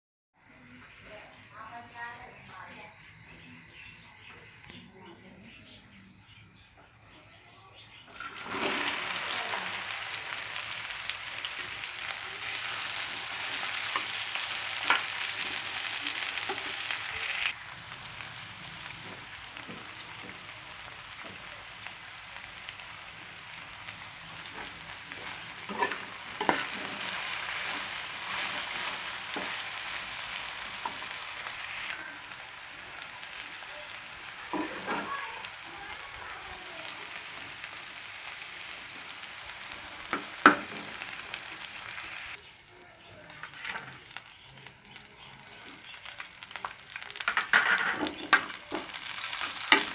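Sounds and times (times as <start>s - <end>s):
food sizzling in oil: 8.2s - 42.7s, 43.3s - 49.9s.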